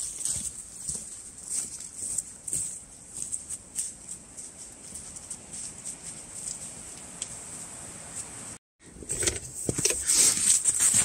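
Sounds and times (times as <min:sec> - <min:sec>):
footsteps crunching in snow: 0:00.0 - 0:08.4, 0:10.0 - 0:11.0.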